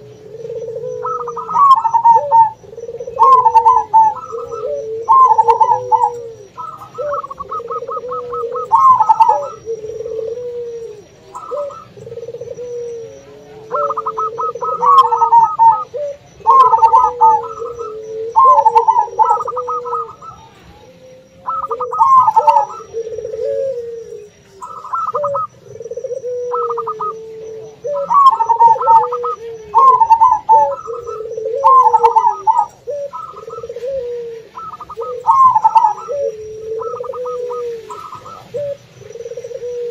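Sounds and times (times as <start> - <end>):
doves stuttering coos: 0.0 - 39.9
low drawn-out dove cooing: 0.0 - 39.9.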